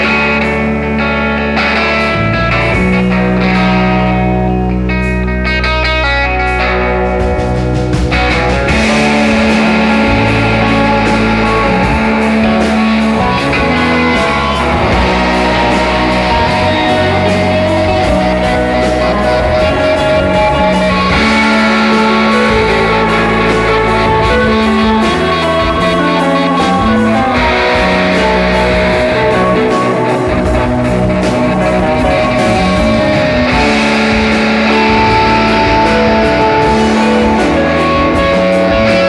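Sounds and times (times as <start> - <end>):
rock band playing live: 0.0 - 39.0.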